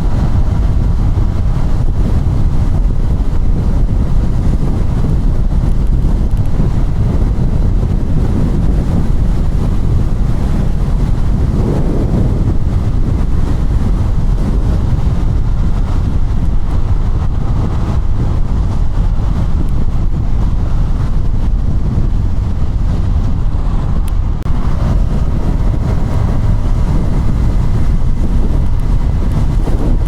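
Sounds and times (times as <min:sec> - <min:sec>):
motorcycle engine running: 0:00.0 - 0:30.0
wind rushing over microphone: 0:00.0 - 0:30.0.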